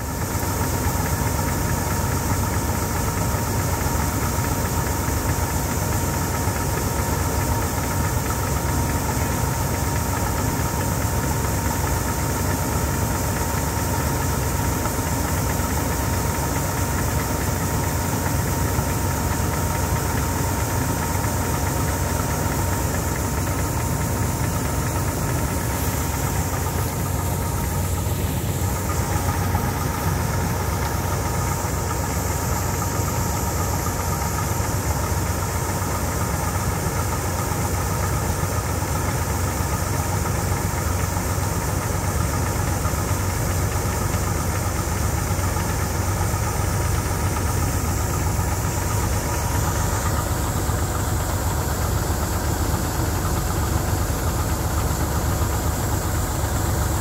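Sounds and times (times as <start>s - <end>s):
combine harvester engine drone: 0.0s - 57.0s
grain auger whine: 0.0s - 57.0s.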